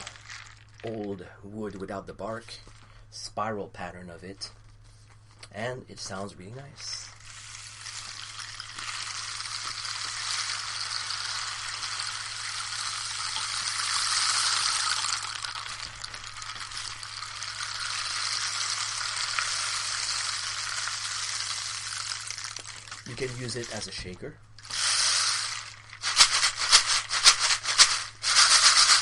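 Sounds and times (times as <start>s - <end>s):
rainstick trickling hiss: 0.0s - 1.2s, 6.8s - 29.0s.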